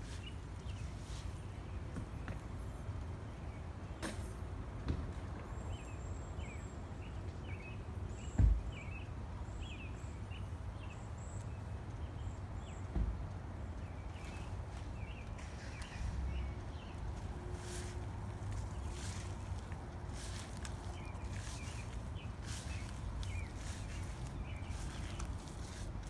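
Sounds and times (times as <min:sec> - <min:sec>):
small birds chirping: 0:00.0 - 0:04.0, 0:05.5 - 0:26.0.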